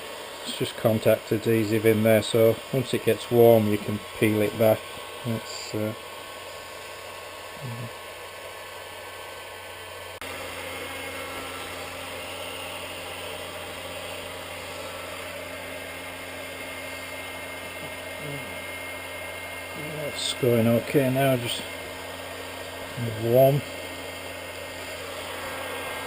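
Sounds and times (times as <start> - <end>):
heat gun blowing hot air: 0.0 - 26.0.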